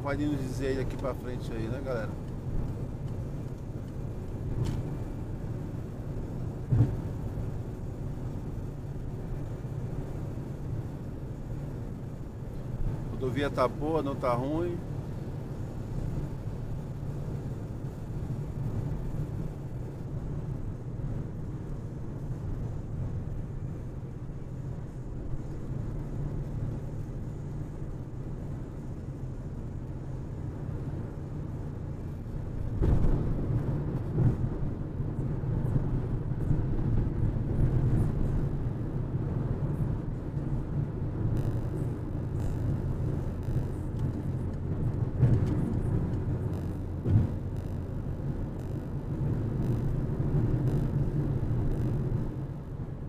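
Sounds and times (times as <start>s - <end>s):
engine and tyre rumble: 0.0s - 53.0s.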